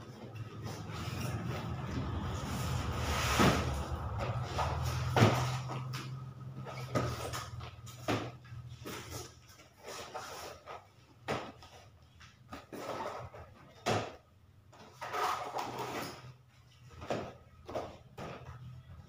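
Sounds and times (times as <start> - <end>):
cardboard rustling and scraping: 0.0 - 14.1, 14.8 - 19.0.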